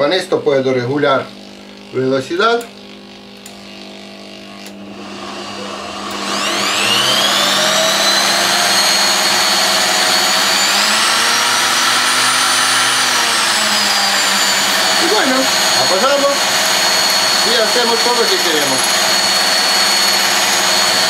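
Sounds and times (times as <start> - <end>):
electric drill motor whining: 1.0 - 21.0.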